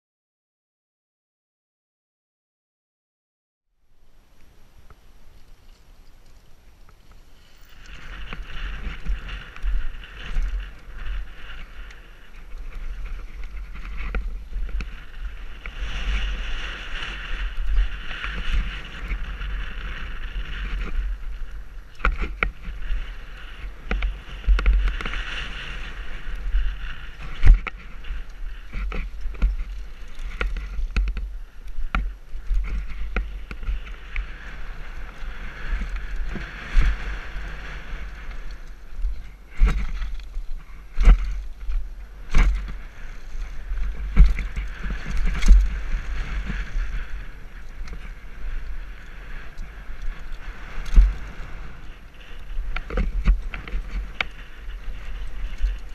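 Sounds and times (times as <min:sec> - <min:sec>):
wind buffeting microphone: 0:04.5 - 0:55.9
tyres rolling over gravel: 0:04.9 - 0:55.9.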